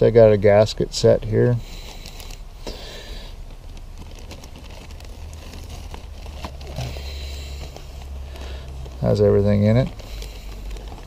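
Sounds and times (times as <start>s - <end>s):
low steady rumble: 0.0s - 11.0s
plastic bag rustling: 1.3s - 11.0s.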